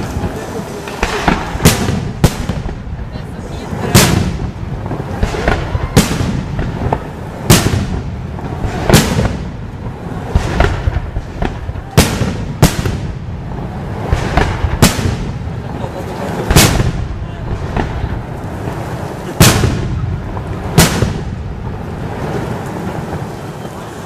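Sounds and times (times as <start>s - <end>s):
fireworks bursting with bangs: 0.0s - 24.0s.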